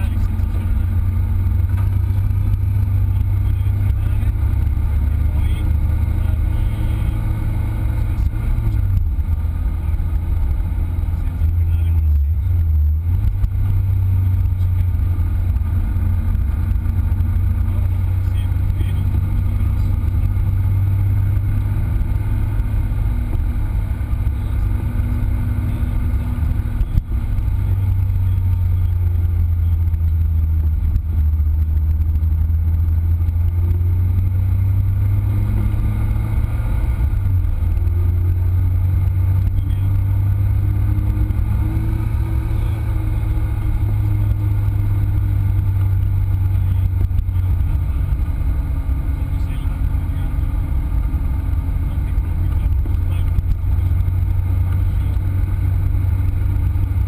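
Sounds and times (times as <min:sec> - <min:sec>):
car engine revving at speed: 0:00.0 - 0:57.0
road and wind noise: 0:00.0 - 0:57.0.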